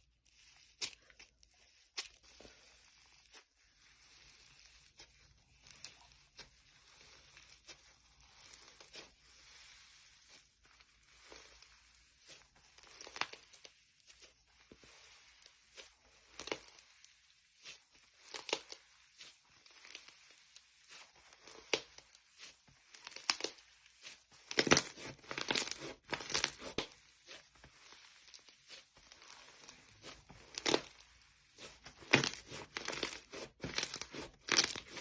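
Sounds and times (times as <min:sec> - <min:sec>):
slime crackling and popping: 0:00.3 - 0:35.0.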